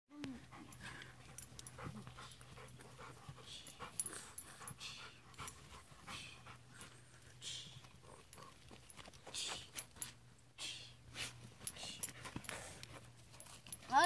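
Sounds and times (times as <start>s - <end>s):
dog panting and snorting: 0.4s - 10.2s, 11.1s - 14.0s.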